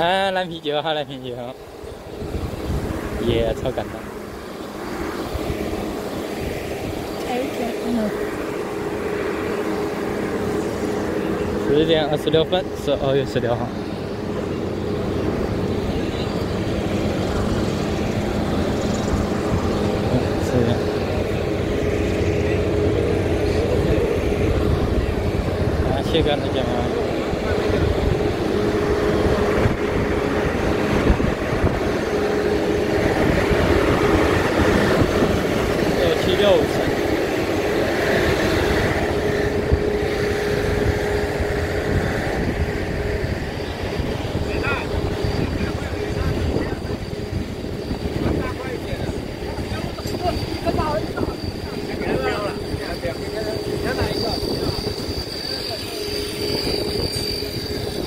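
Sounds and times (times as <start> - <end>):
diesel generator running: 0.0 - 58.0
train rumbling and humming: 0.0 - 58.0.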